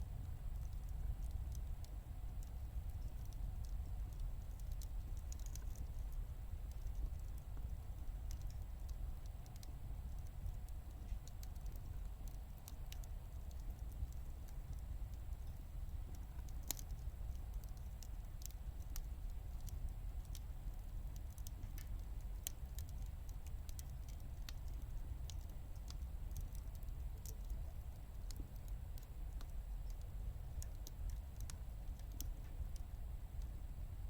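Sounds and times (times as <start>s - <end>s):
firewood crackling and popping: 0.0s - 34.0s
stove low rumble: 0.0s - 34.0s.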